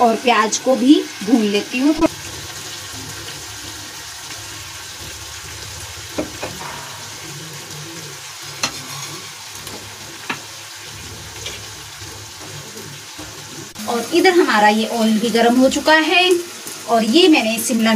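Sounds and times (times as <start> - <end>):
food sizzling in a pan: 0.0 - 17.9.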